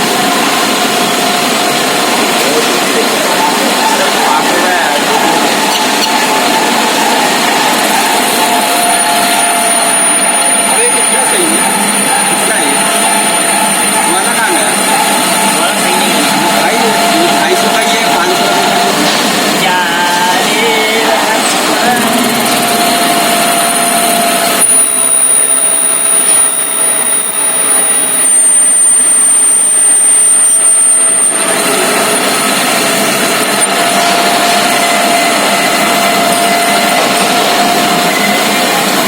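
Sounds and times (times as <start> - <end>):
metal lathe whining: 0.0 - 39.0.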